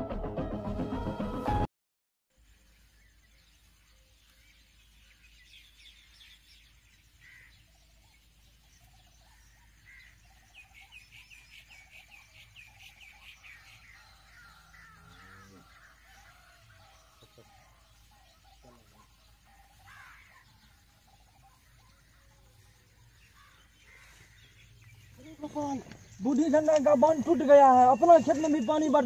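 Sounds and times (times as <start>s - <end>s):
faint birdsong: 2.3s - 29.0s.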